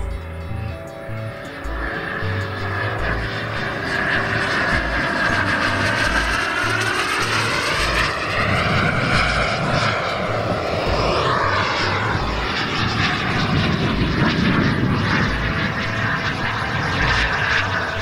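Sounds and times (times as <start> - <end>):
model jet turbine whine: 1.1 - 18.0.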